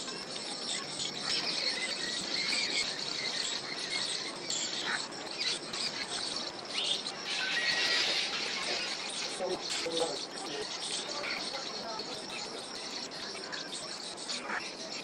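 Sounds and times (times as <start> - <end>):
high-pitched insect trilling: 0.0 - 15.0.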